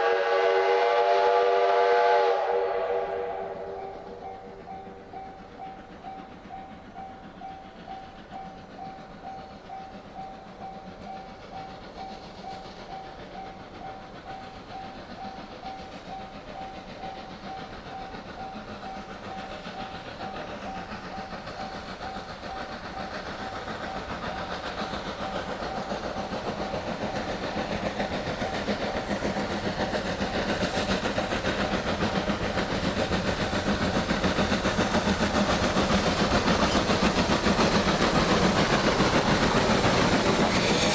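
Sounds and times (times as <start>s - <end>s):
steam hissing: 0.0s - 40.9s
steam locomotive chuffing: 0.0s - 40.9s.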